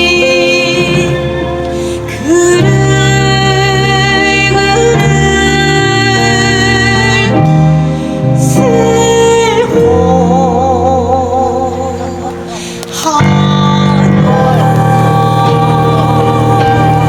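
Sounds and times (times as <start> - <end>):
woman singing: 0.0 - 7.7, 8.3 - 17.0.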